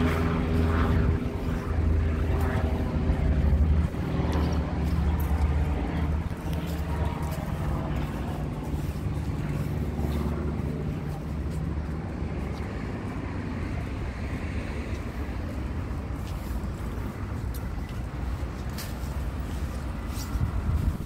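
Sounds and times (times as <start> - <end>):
low traffic rumble: 0.0 - 21.0
vehicle engine humming close by: 0.0 - 21.0.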